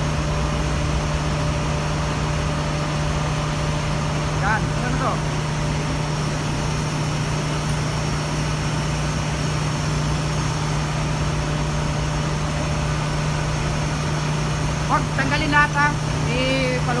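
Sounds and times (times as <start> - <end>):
engine-room machinery humming: 0.0 - 17.0.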